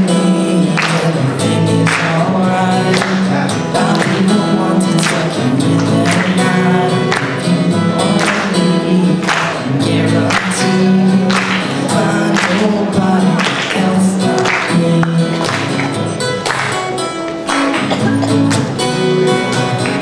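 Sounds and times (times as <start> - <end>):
young man singing: 0.0 - 16.2
strummed acoustic guitar: 0.0 - 20.0.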